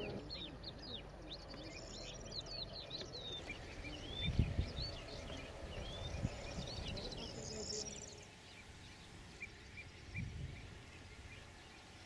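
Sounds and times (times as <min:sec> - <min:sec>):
birds calling: 0:00.0 - 0:12.0
outdoor background noise: 0:00.0 - 0:12.0.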